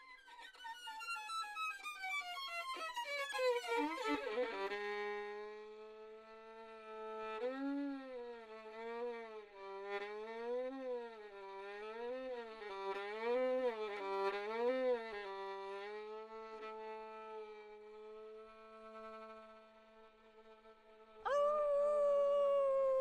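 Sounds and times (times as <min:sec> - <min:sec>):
violin playing slow melody: 0:00.0 - 0:21.2.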